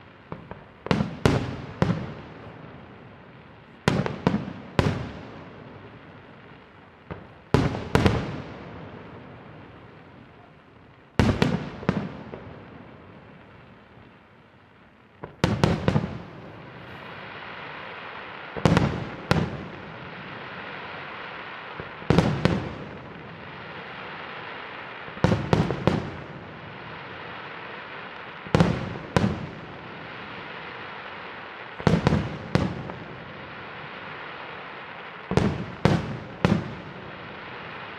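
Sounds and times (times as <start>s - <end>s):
steady hiss: 0.0s - 37.9s.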